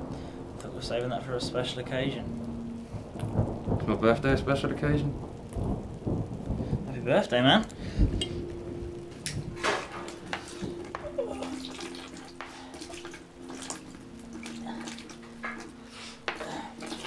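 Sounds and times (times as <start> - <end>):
low held musical notes: 0.0 - 17.0.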